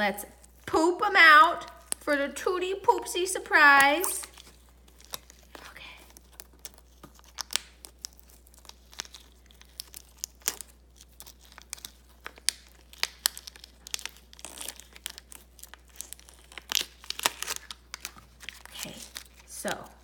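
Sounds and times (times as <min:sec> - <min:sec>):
plastic packaging crinkling and tearing: 0:00.3 - 0:02.1, 0:02.8 - 0:20.0.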